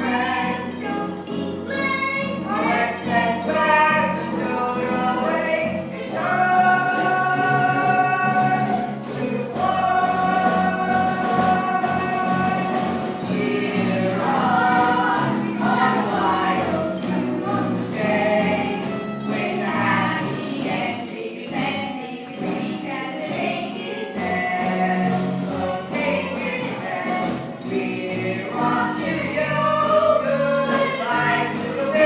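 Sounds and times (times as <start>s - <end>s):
group singing: 0.0s - 32.0s
instrumental accompaniment: 0.0s - 32.0s.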